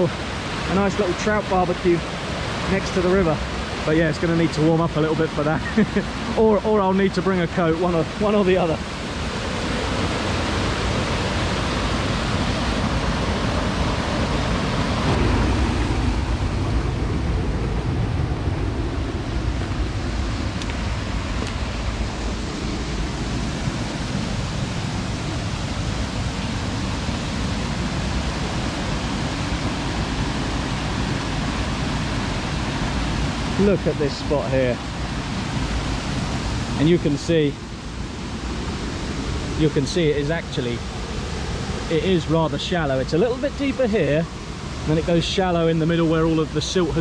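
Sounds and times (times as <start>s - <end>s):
wind buffeting microphone: 0.0s - 45.5s.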